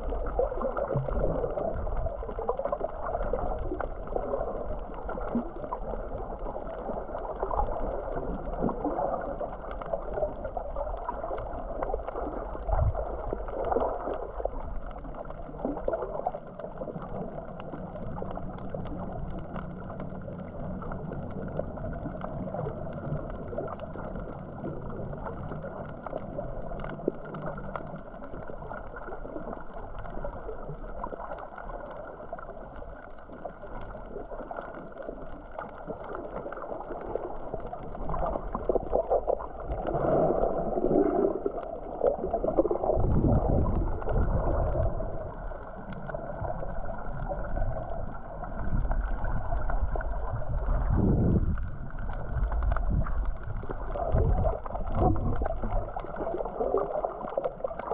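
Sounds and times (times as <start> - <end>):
water sloshing and gurgling: 0.0 - 57.9.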